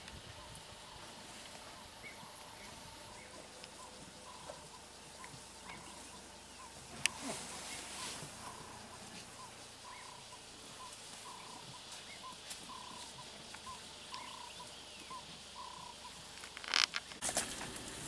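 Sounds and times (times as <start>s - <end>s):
small animal calling: 1.7s - 16.9s.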